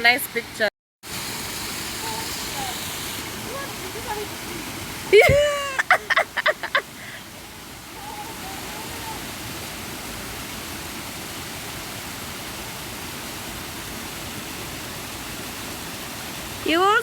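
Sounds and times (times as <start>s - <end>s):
small waterfall rushing: 0.0s - 17.0s.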